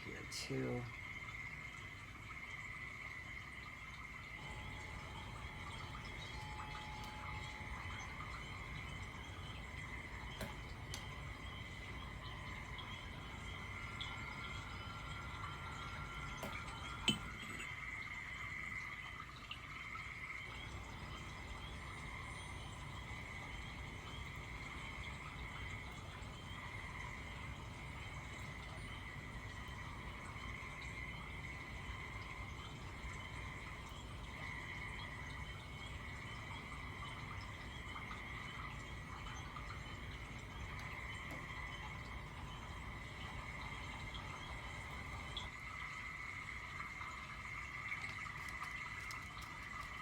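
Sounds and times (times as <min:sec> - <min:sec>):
frogs and insects calling: 0:00.0 - 0:50.0.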